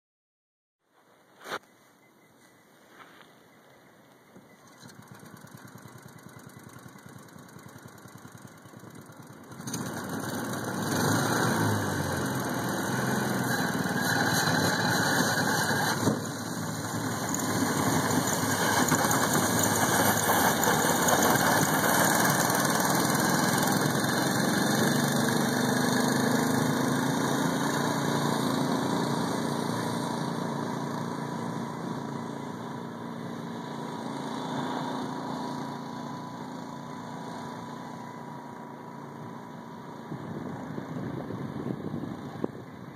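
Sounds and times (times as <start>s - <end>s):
small gasoline engine running: 4.6s - 42.9s.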